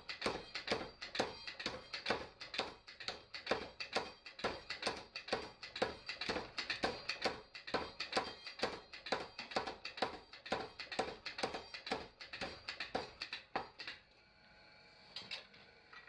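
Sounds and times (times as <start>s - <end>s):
hammer striking steel on anvil: 0.0s - 13.8s.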